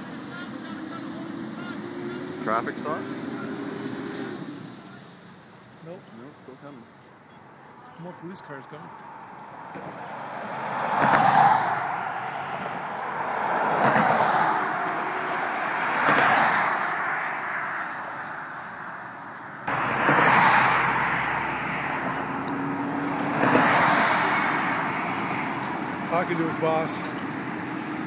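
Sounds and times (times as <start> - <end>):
vehicles passing on highway: 0.0 - 28.0.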